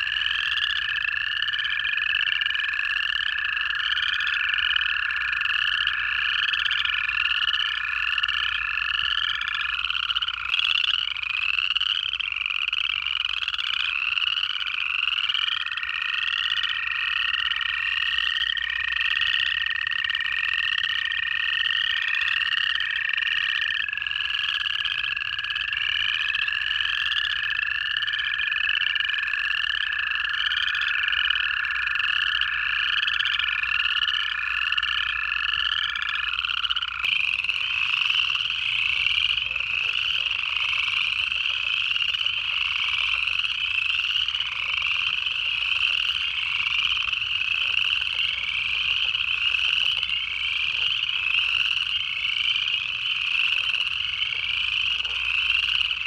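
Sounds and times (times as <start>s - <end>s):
chorus frogs trilling: 0.0s - 56.0s
toads trilling: 0.0s - 56.0s.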